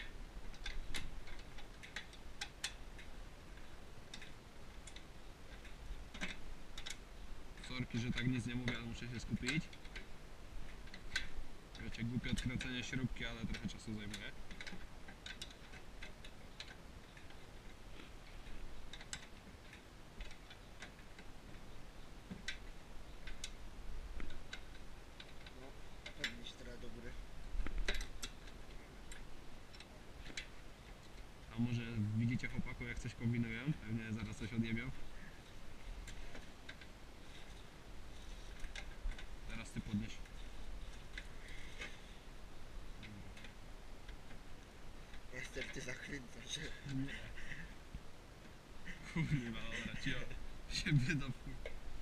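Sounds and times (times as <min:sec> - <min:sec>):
faint low rumble: 0:00.0 - 0:52.0.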